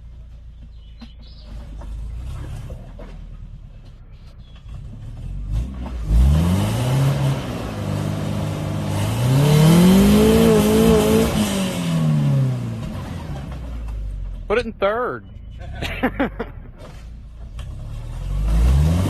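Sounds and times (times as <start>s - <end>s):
car engine revving: 1.2s - 19.0s.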